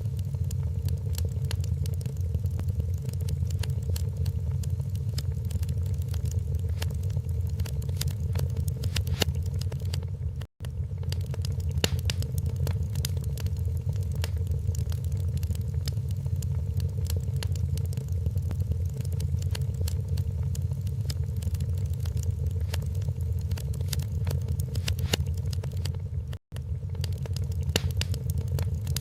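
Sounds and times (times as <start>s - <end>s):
low rumble: 0.0s - 29.0s
wood fire crackling: 0.0s - 29.0s.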